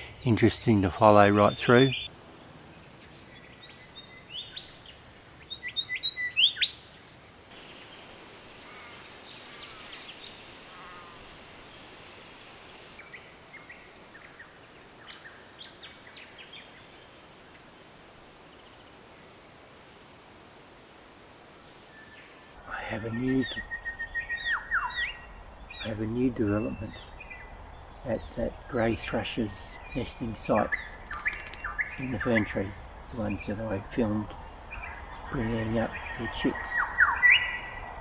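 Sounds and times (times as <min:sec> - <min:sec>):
soft bird chirps: 0:01.3 - 0:20.8, 0:21.6 - 0:37.9.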